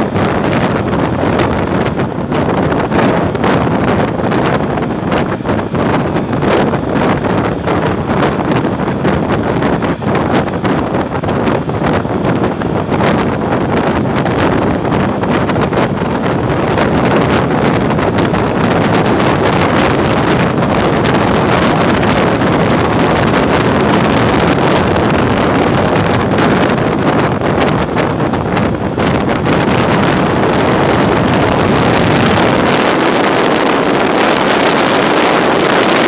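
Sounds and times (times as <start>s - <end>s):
motorcycle engine: 0.0s - 36.0s
road noise: 0.0s - 36.0s
wind buffeting microphone: 0.0s - 36.0s.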